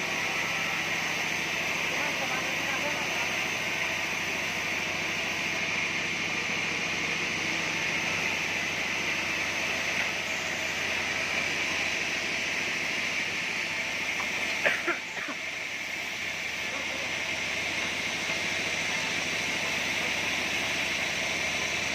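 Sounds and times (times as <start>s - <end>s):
band sawmill running: 0.0s - 21.9s.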